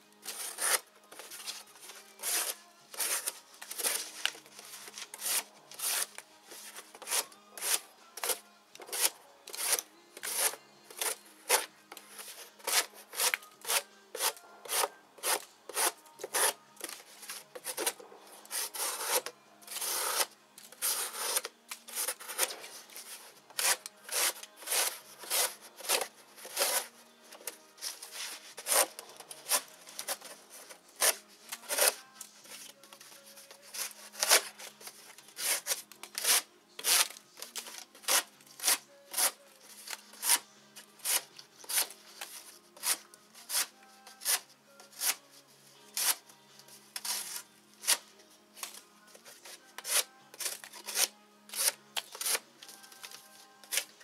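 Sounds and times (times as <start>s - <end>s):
knife slicing cardboard: 0.3s - 32.0s, 33.6s - 34.7s, 35.3s - 40.4s, 41.0s - 45.2s, 49.4s - 52.4s.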